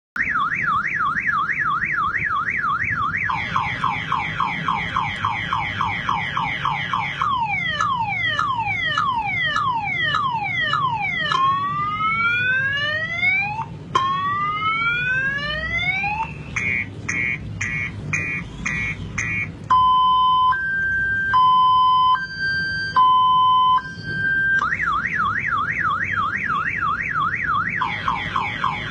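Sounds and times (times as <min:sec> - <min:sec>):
car alarm siren: 0:00.2 - 0:28.9.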